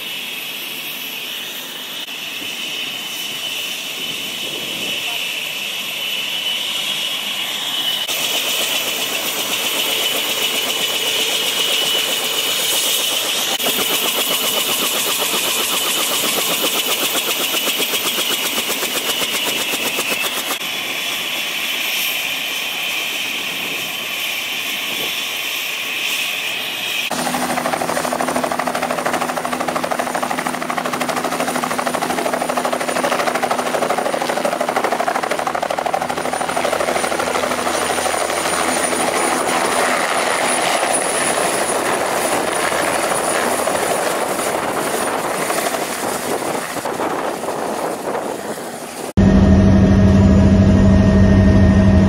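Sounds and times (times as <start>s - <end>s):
helicopter turbine whining: 0.0s - 52.0s
helicopter rotor chopping: 7.4s - 24.0s, 26.4s - 52.0s.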